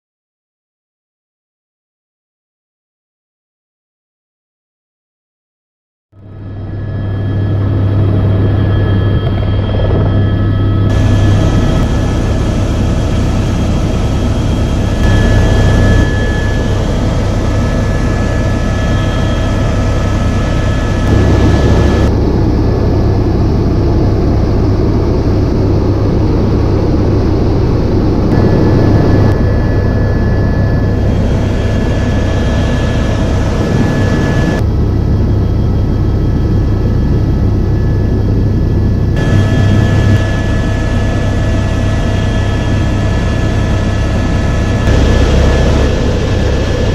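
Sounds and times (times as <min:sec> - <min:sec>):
helicopter rotor drone: 0:06.2 - 0:46.9
thin high whine: 0:06.2 - 0:46.9.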